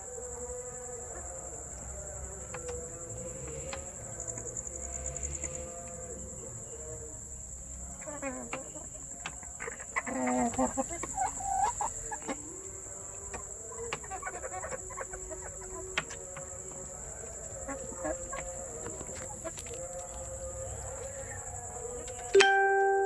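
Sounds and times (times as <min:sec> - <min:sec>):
chickens clucking: 0:00.0 - 0:22.8.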